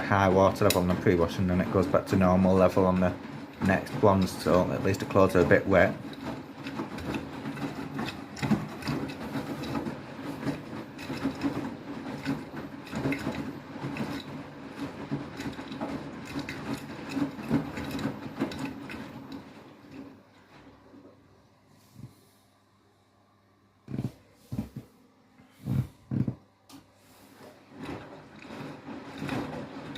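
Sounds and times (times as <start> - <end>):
knocks and rubbing in drum: 0.0 - 20.7, 23.8 - 24.9, 25.6 - 26.5, 27.1 - 29.9
washing machine drum tumbling: 0.0 - 21.2, 25.5 - 26.5, 27.4 - 29.9.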